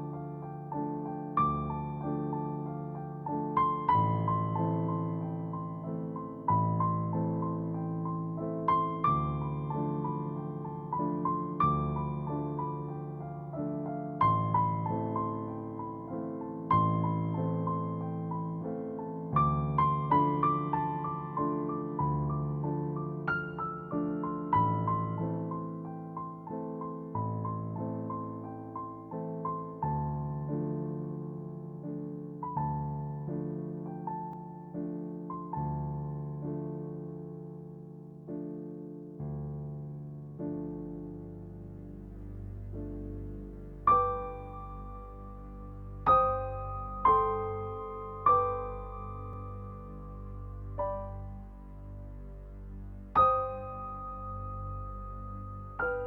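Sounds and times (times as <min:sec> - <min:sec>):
soft slow piano music: 0:00.0 - 0:56.0.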